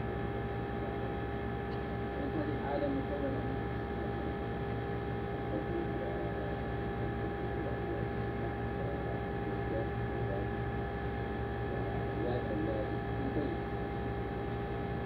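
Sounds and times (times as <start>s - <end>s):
background hum with held tones: 0.0s - 15.0s
faint indistinct voices: 2.0s - 14.3s.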